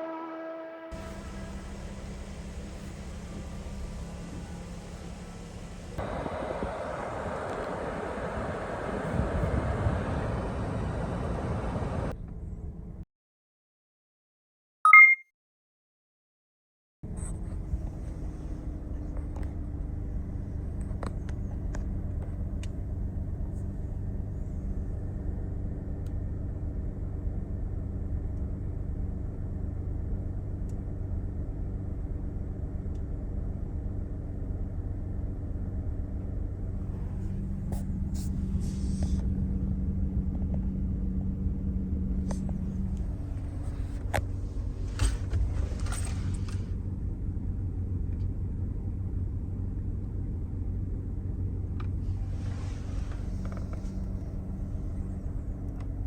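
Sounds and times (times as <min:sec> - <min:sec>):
car engine and road noise: 0:00.0 - 0:13.0, 0:17.0 - 0:56.0.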